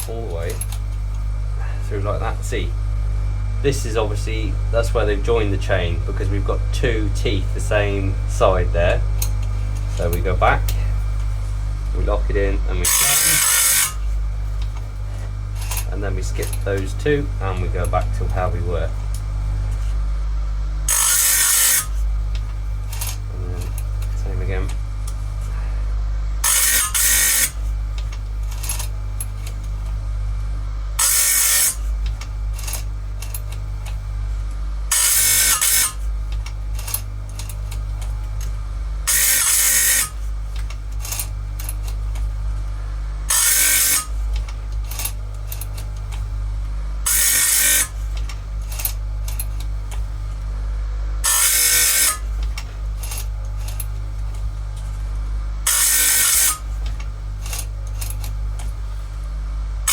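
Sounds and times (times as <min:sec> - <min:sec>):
chain grinder motor humming: 0:00.0 - 0:59.9
grinding wheel on steel: 0:00.0 - 0:59.9.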